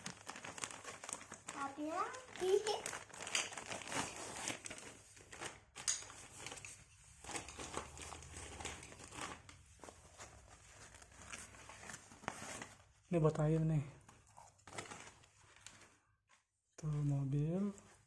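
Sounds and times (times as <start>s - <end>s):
plastic packaging crinkling: 0.0s - 13.6s, 14.3s - 16.0s.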